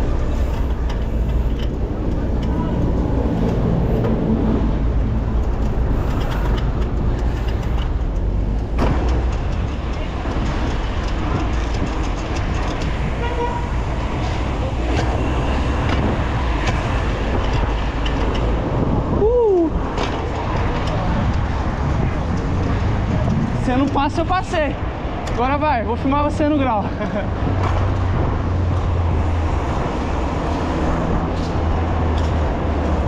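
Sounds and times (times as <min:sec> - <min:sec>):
road traffic: 0:00.0 - 0:33.0
wind rumble: 0:00.0 - 0:33.0.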